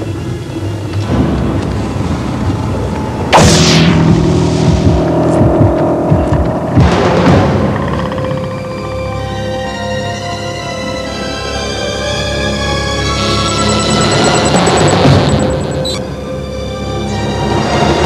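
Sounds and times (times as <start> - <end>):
tense film music: 0.0 - 18.0.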